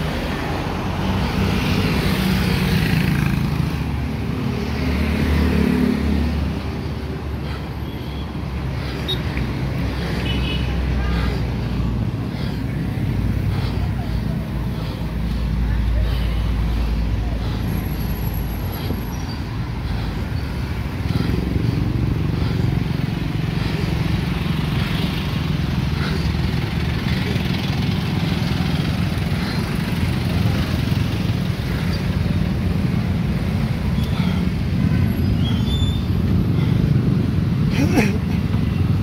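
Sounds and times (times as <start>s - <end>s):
motorcycle and car engines running: 0.0s - 39.0s.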